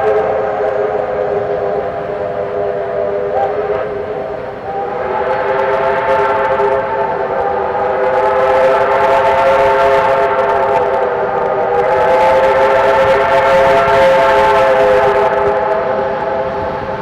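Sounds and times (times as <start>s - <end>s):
steam locomotive whistle: 0.0s - 17.0s.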